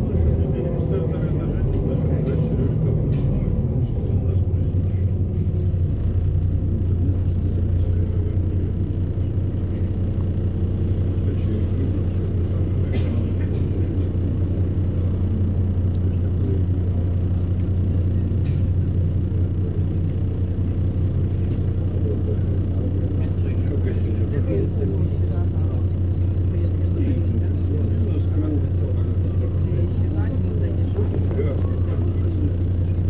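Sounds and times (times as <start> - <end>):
bus engine droning: 0.0 - 33.0.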